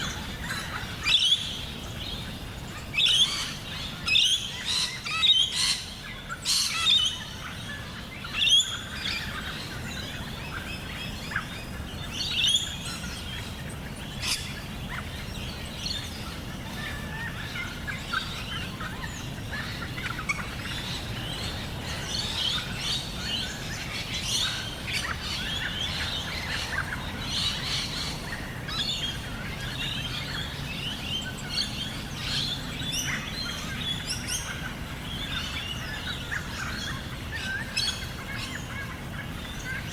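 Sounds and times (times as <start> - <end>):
birds chirping and trilling: 0.0 - 39.9
low background noise: 0.0 - 39.9.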